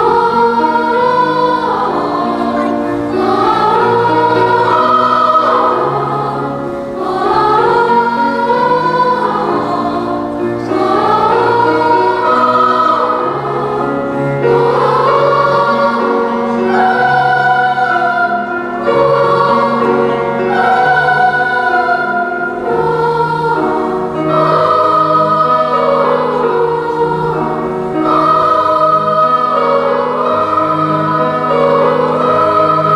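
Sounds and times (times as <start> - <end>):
children's choir singing: 0.0 - 32.9.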